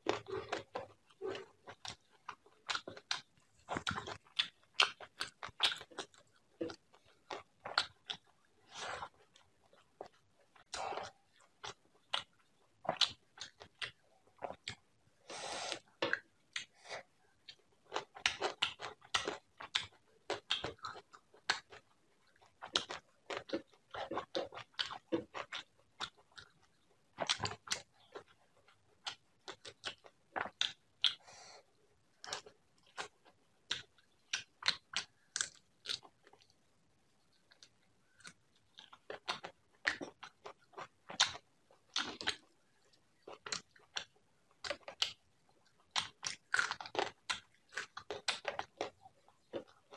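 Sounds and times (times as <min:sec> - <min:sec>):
close chewing with mouth clicks: 0:00.0 - 0:49.9.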